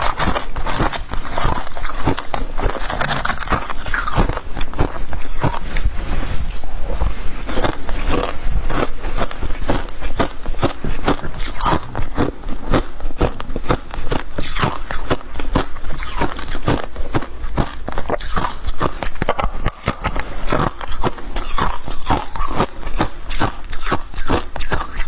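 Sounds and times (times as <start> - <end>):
frost being chewed crunching: 0.0 - 25.0.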